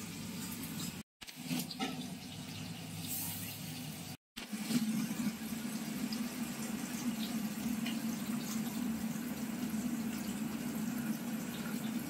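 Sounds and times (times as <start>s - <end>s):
fish sizzling in hot oil: 0.2s - 12.0s.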